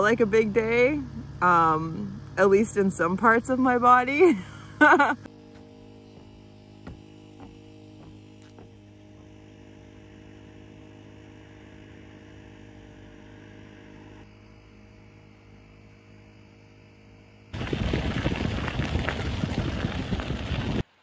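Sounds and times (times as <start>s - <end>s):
steady low hum: 0.0s - 19.3s.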